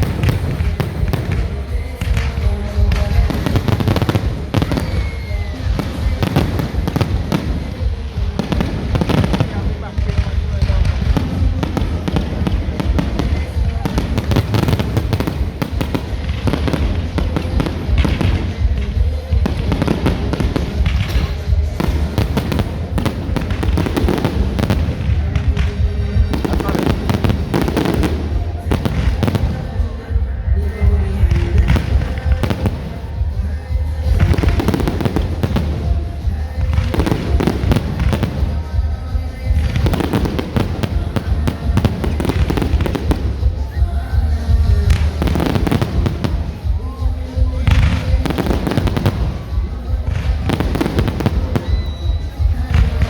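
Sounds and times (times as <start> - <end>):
fireworks popping and crackling: 0.0 - 53.0
music: 0.0 - 53.0.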